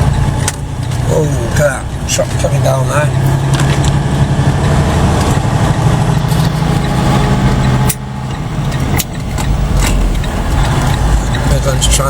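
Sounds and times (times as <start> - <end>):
diesel truck engine hum: 0.0 - 12.0.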